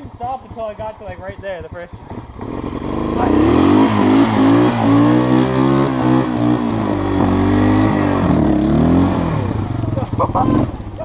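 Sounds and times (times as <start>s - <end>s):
engine revving: 2.1s - 11.0s.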